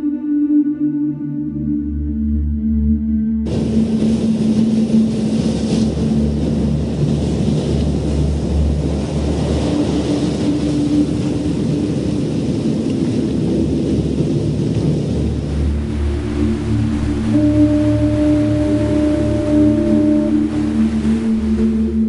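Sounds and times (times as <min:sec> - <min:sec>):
ambient music with drone tones: 0:00.0 - 0:22.0
ocean surf rushing: 0:03.4 - 0:22.0.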